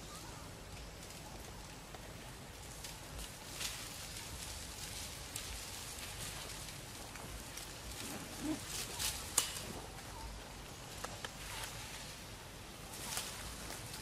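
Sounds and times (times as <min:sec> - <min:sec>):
dry leaves crackling underfoot: 0:00.0 - 0:14.0
steady background hiss: 0:00.0 - 0:14.0.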